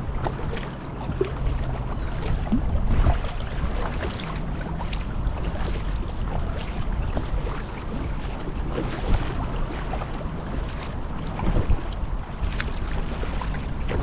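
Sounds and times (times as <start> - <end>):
water splashing around kayak: 0.0 - 14.0
wind rumble on microphone: 0.0 - 14.0.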